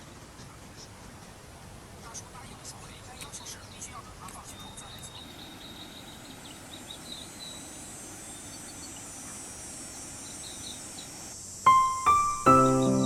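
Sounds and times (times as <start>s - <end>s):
insects trilling: 2.4s - 13.0s.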